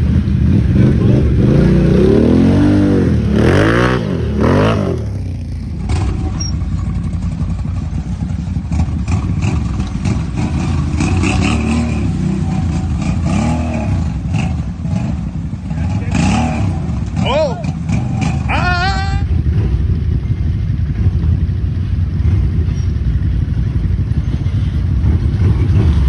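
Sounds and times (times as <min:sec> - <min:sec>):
atv engines revving: 0:00.0 - 0:26.0.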